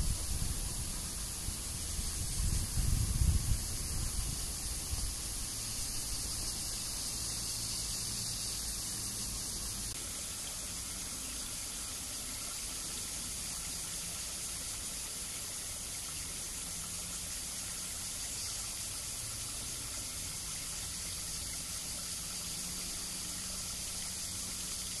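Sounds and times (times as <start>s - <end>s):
cicadas chorus: 0.0s - 25.0s.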